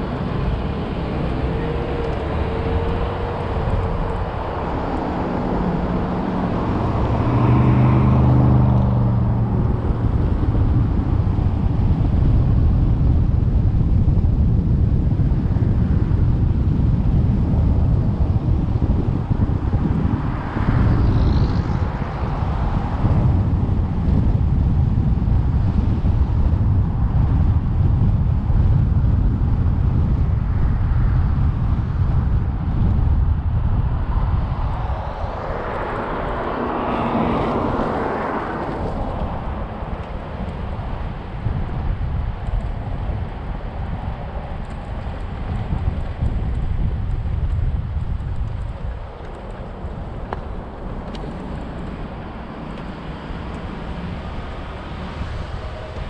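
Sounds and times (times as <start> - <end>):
engine hum: 0.0 - 56.0
vehicle and road rumble: 0.0 - 56.0.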